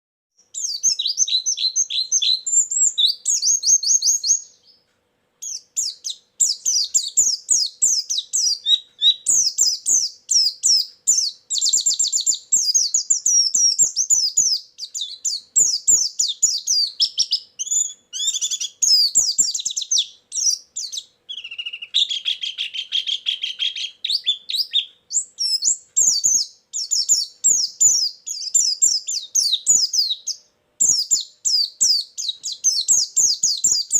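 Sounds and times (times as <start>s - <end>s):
bird twittering song: 0.4s - 33.9s.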